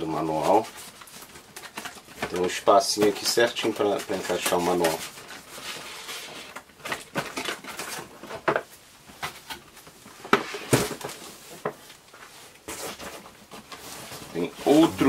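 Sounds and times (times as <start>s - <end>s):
cardboard packaging rustling: 0.0s - 15.0s.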